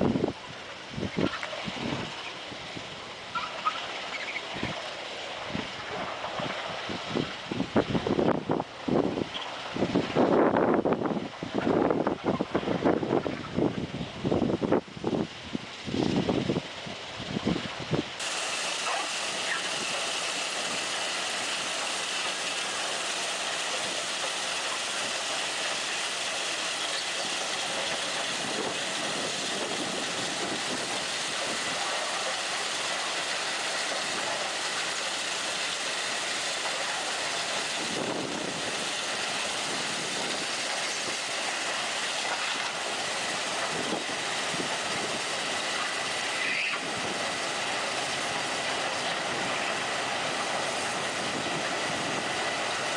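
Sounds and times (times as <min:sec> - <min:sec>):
track maintenance machine hissing: 0:00.0 - 0:52.9.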